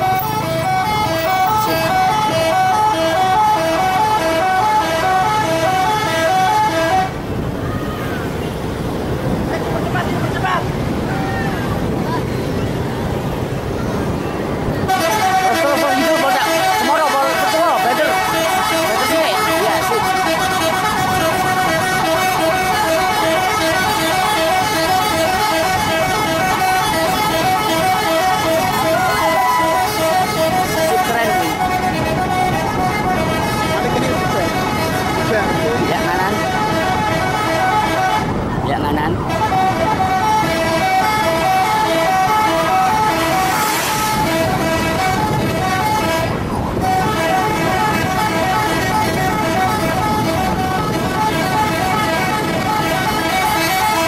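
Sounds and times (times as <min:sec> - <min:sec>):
bus musical horn tune: 0:00.0 - 0:07.3, 0:14.8 - 0:38.5, 0:39.2 - 0:54.0
road noise: 0:00.0 - 0:54.0.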